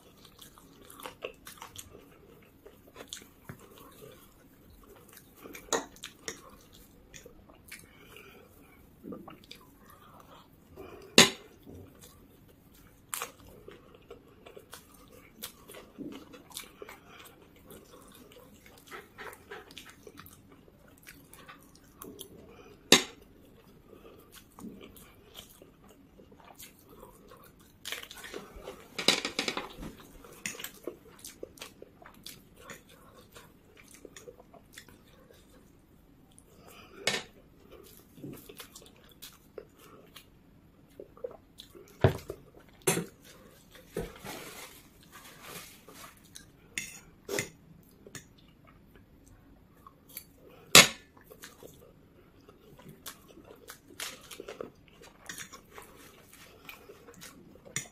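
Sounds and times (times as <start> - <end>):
close chewing of noodles: 0.0 - 29.0, 29.9 - 57.9.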